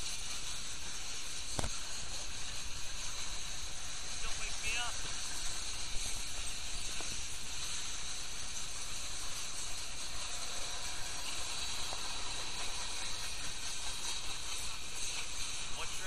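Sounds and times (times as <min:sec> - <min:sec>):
freight train cars rolling past: 0:00.0 - 0:16.0.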